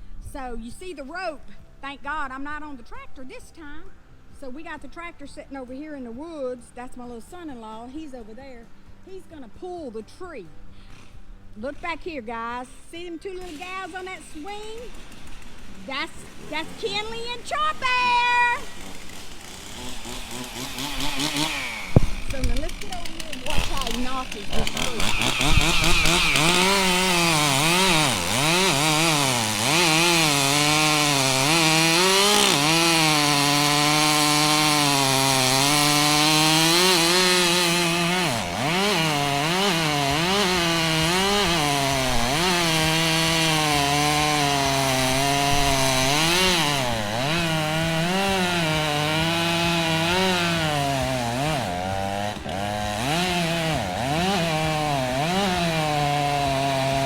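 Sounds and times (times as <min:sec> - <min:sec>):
chainsaw cutting wood: 0:10.4 - 0:57.0.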